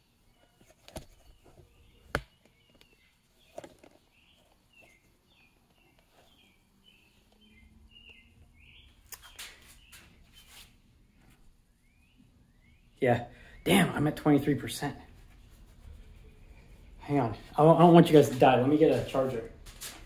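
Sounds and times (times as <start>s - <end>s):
faint chirping: 0.0s - 19.5s.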